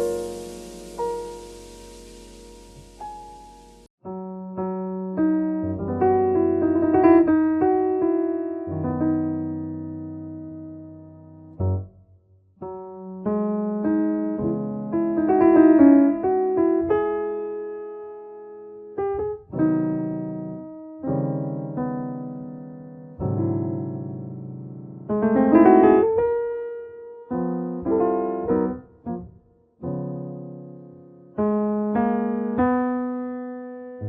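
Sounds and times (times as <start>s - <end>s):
slow piano chords: 0.0s - 12.0s, 12.6s - 34.0s.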